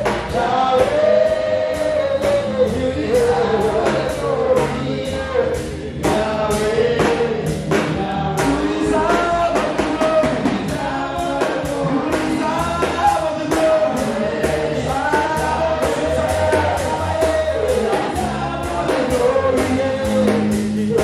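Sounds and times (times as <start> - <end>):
man singing into microphone: 0.0 - 21.0
steady drum beat: 0.0 - 21.0.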